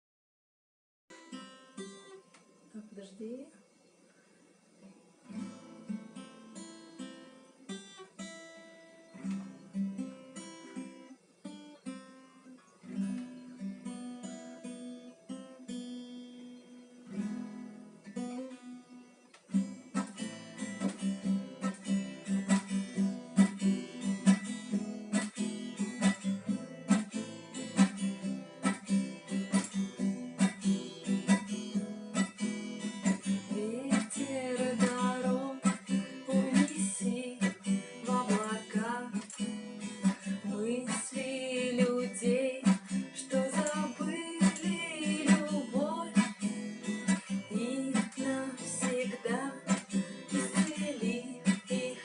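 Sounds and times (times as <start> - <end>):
acoustic guitar playing: 1.1 - 3.1, 4.8 - 52.0.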